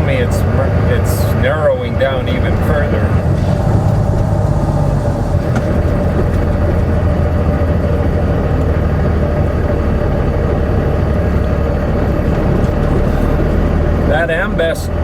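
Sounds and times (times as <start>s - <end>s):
diesel truck engine hum: 0.0s - 15.0s
road noise: 0.0s - 15.0s.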